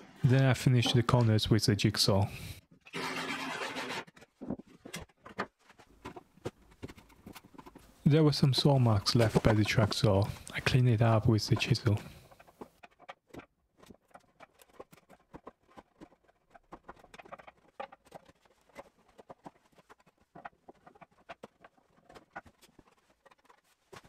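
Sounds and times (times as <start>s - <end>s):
chisel scraping wood: 2.4s - 24.0s.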